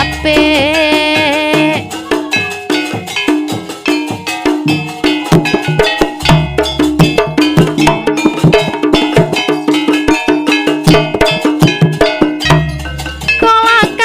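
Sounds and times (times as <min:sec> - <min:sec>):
gamelan ensemble playing: 0:00.0 - 0:14.0.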